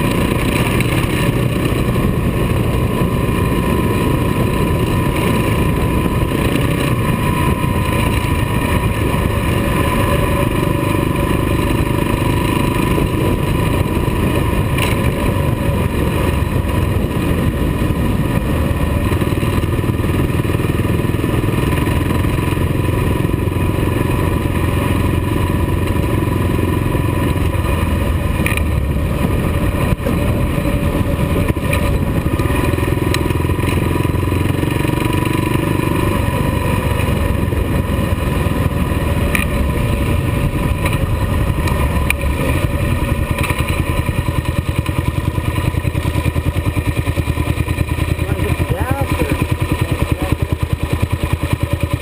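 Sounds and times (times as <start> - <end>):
motorcycle engine cruising: 0.0 - 52.0
wind and road noise: 0.0 - 52.0.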